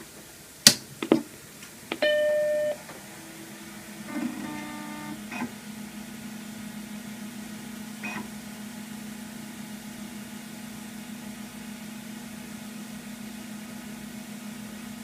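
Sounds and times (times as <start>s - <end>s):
computer fan and drive hum: 0.0s - 15.0s.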